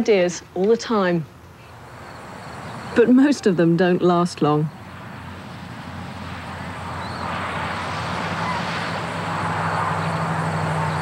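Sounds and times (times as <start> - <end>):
rush of background noise: 0.0 - 11.0.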